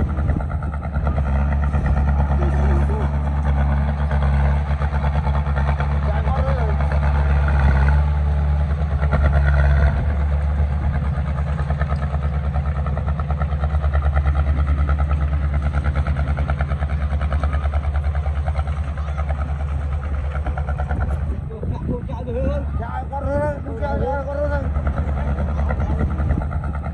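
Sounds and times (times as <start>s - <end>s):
heavy diesel engine throbbing: 0.0s - 26.9s.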